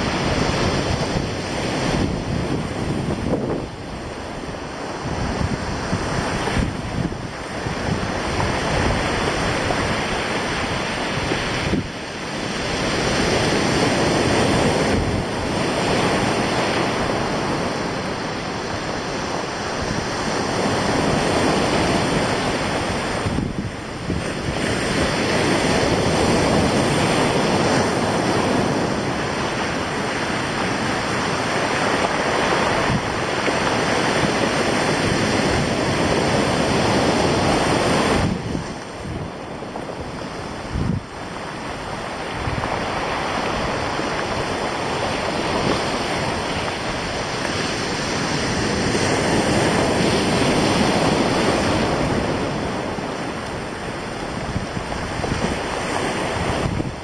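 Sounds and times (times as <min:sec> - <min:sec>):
surf breaking on stony beach: 0:00.0 - 0:57.0
wind buffeting microphone: 0:00.0 - 0:57.0.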